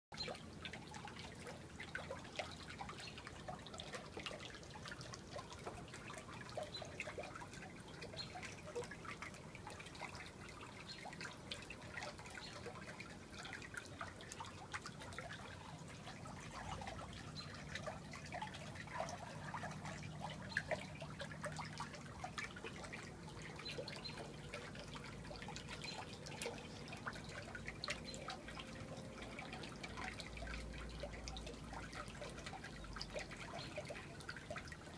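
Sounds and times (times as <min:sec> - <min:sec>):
water trickling and dripping: 0:00.1 - 0:34.9.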